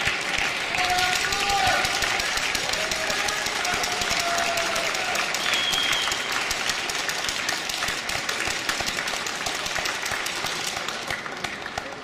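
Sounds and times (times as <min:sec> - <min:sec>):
spectators applauding: 0:00.0 - 0:12.0.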